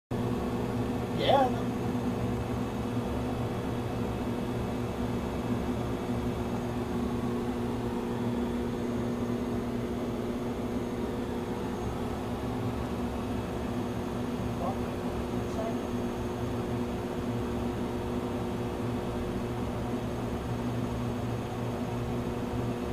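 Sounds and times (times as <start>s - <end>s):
steady cockpit drone: 0.1s - 22.9s
low hum tones: 0.2s - 22.9s.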